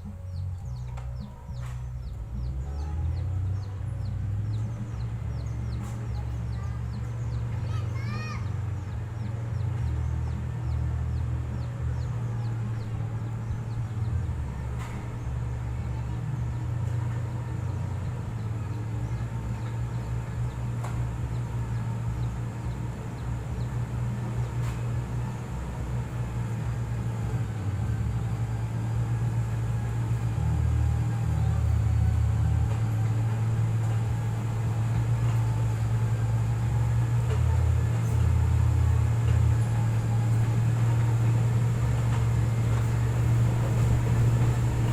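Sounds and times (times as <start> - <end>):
heavy engine droning: 0.0 - 44.9.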